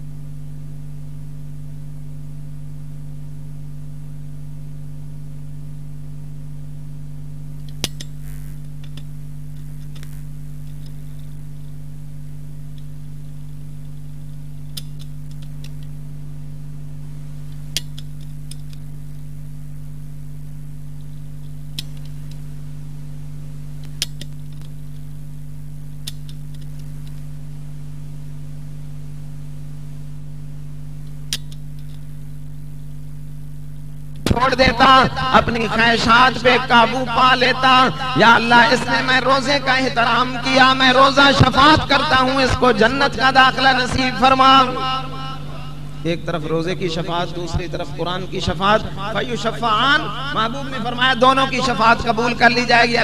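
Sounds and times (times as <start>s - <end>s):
electrical mains hum: 0.0s - 53.0s.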